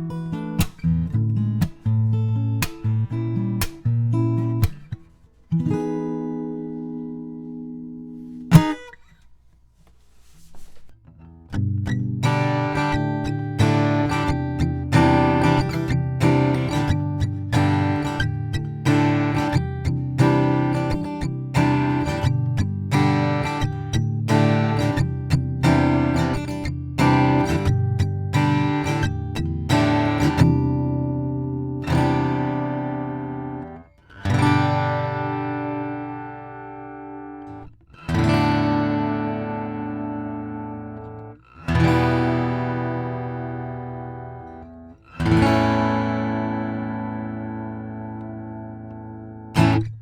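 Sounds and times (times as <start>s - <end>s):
acoustic guitar strummed chords: 0.0s - 9.3s, 10.5s - 50.0s.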